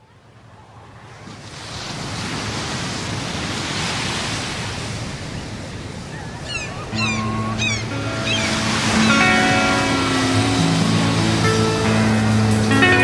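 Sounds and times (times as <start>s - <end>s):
ocean surf washing: 0.0s - 13.0s.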